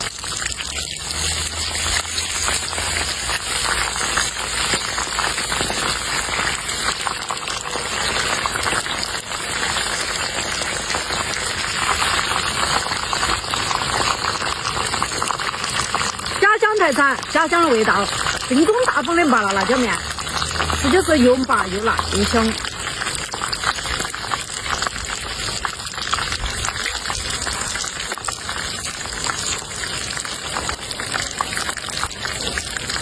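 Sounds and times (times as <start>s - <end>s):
food sizzling: 0.0s - 33.0s.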